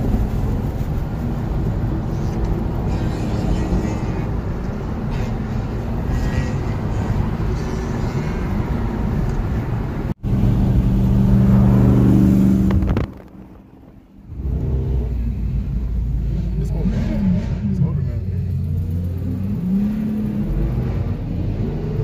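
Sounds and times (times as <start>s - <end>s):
car engine: 0.0s - 22.0s
road noise: 0.0s - 22.0s.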